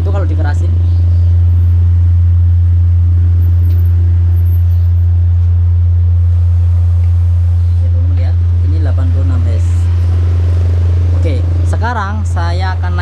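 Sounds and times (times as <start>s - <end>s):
low subwoofer test tone: 0.0s - 13.0s.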